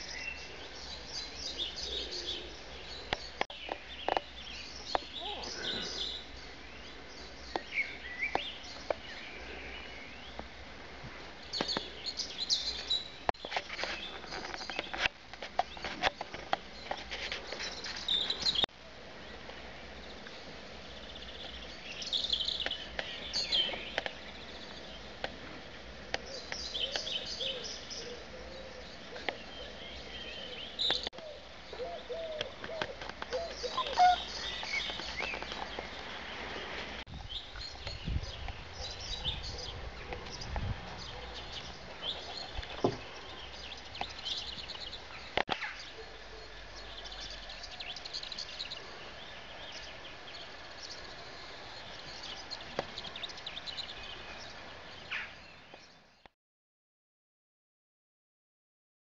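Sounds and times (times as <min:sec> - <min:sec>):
birds chirping and trilling: 0:00.0 - 0:56.3.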